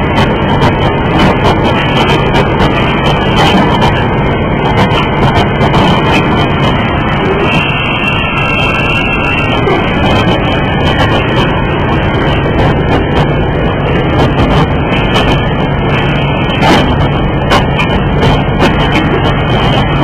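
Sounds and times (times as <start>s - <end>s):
mechanical clatter: 0.0s - 20.0s
steady motor hum: 0.0s - 20.0s.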